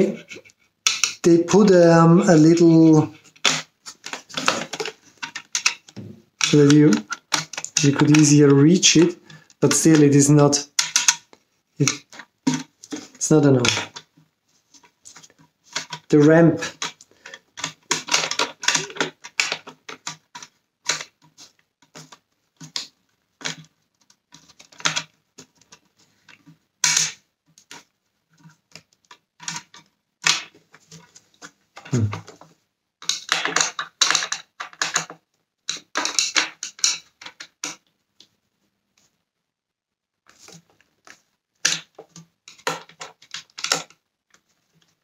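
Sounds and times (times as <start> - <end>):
plastic parts knocking: 0.0 - 37.9, 40.3 - 45.0.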